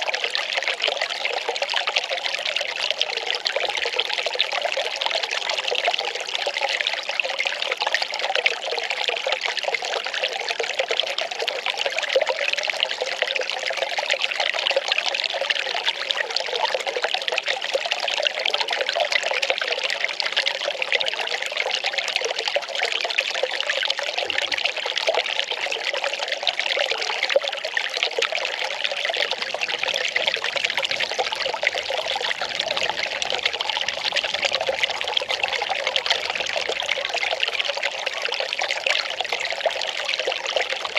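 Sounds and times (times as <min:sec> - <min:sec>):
water pouring and trickling: 0:00.0 - 0:40.9.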